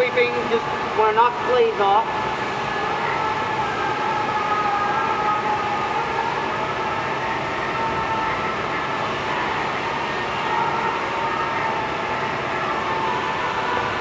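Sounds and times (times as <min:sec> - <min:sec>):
faint wavering whine: 0:00.0 - 0:14.0.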